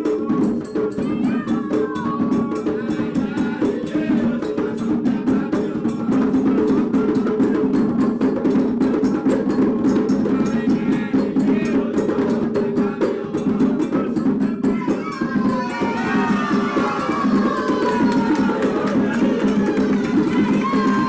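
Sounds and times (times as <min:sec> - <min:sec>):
hand drums playing fast: 0:00.0 - 0:21.0.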